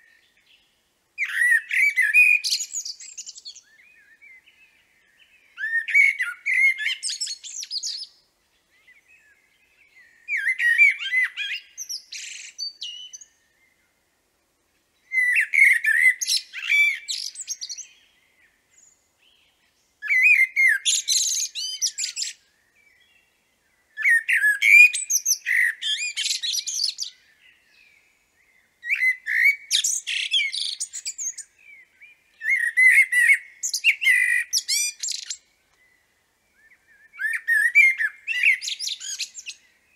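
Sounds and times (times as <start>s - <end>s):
blackbird singing: 0.0s - 13.9s, 15.0s - 39.9s.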